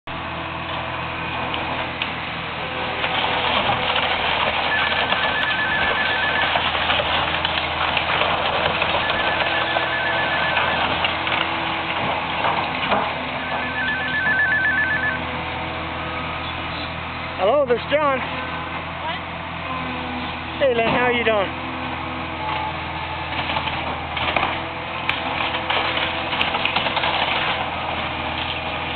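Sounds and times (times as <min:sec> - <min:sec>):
machinery demolishing house: 0:00.1 - 0:28.9.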